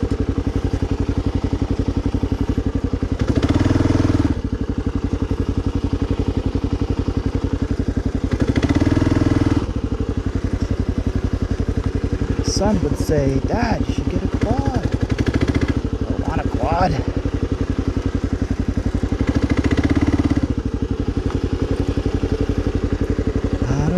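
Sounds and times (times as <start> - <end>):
motorcycle engine thumping: 0.0 - 23.9.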